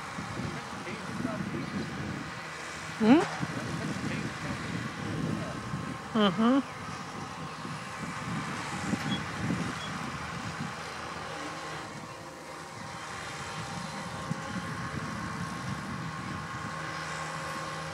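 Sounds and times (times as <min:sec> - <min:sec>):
round baler mechanism running: 0:00.0 - 0:17.9
tractor engine running: 0:00.0 - 0:17.9.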